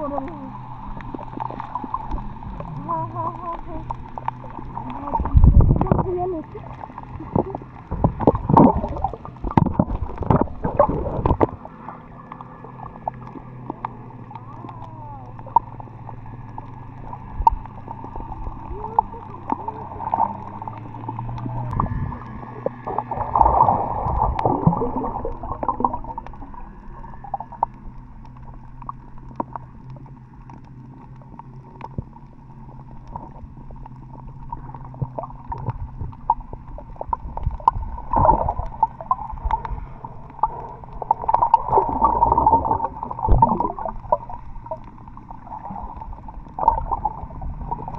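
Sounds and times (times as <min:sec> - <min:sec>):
steady low hum: 0:00.0 - 0:47.9
water sloshing and gurgling underwater: 0:00.0 - 0:47.9.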